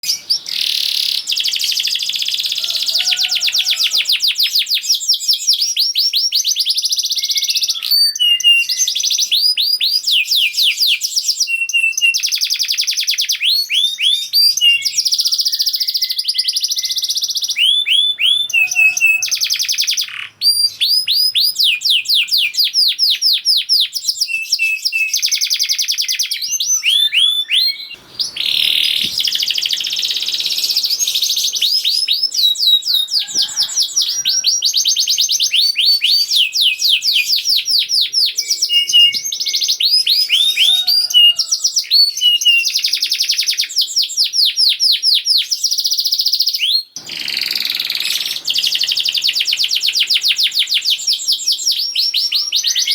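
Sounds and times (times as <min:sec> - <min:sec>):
canary singing: 0:00.0 - 0:52.9.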